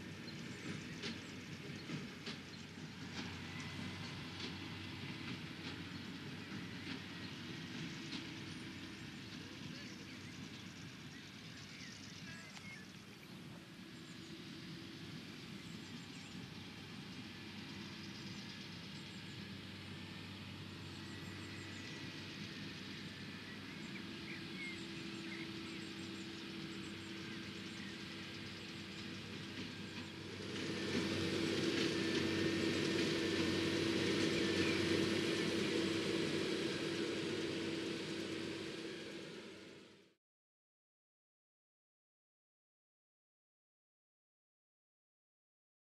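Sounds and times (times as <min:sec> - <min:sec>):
tractor engine hum: 0:00.0 - 0:40.2.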